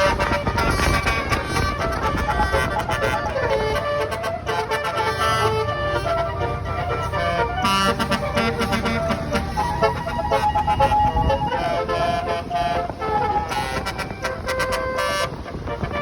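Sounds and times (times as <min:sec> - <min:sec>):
musical air horn playing a tune: 0:00.0 - 0:16.0.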